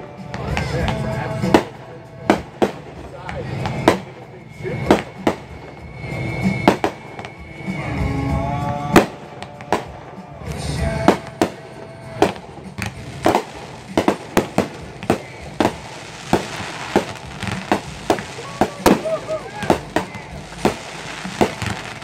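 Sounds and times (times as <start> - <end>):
fireworks banging: 0.0 - 22.0
music playing: 0.0 - 22.0.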